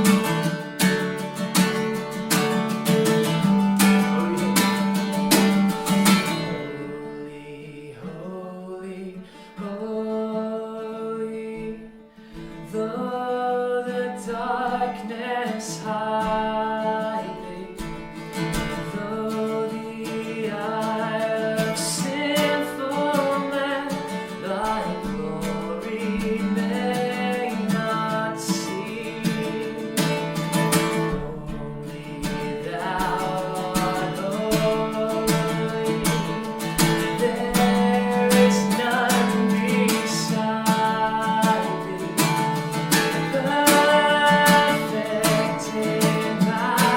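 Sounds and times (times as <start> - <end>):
strummed acoustic guitar: 0.0 - 46.9
person singing: 2.9 - 12.0, 12.6 - 17.9, 18.5 - 46.9.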